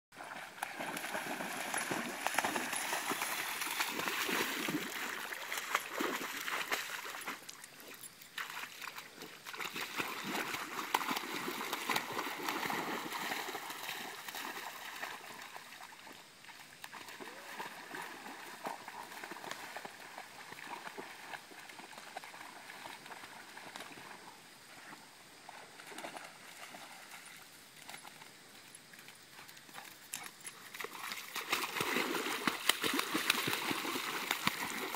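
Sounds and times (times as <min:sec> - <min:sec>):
dog splashing through shallow water: 0:00.2 - 0:28.3, 0:28.9 - 0:34.9.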